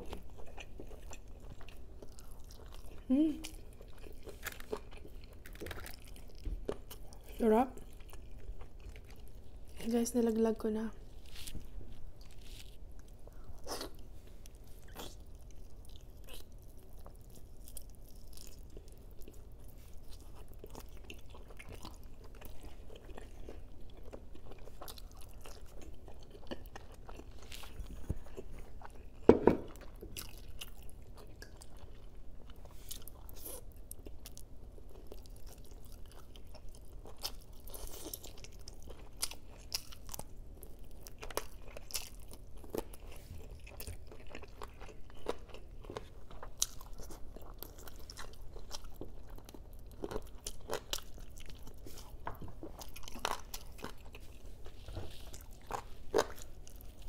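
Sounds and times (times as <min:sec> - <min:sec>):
close chewing and biting: 0:00.0 - 0:10.0, 0:11.1 - 0:57.0.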